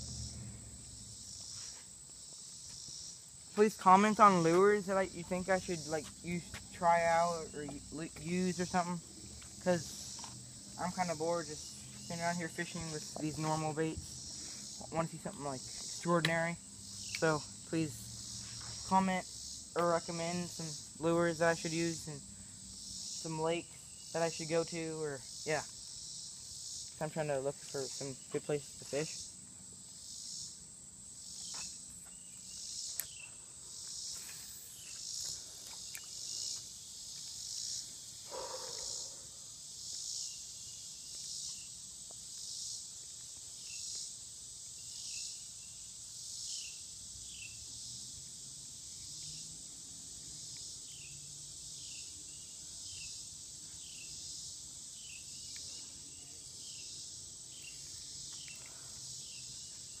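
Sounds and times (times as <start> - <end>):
insect high trill: 0.0 - 60.0
insects buzzing: 0.0 - 60.0.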